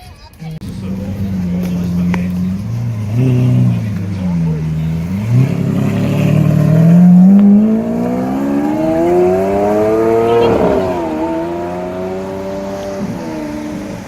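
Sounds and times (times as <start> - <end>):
car engine accelerating: 0.4 - 14.0.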